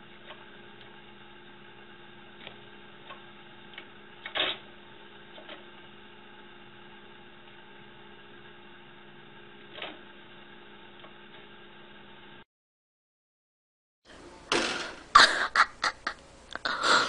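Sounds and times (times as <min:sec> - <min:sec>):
electrical hum: 0:00.0 - 0:12.4, 0:14.1 - 0:17.0.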